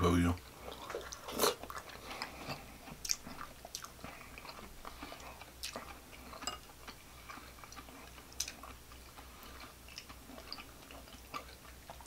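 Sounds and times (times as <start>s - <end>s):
person chewing food: 0.4s - 12.0s.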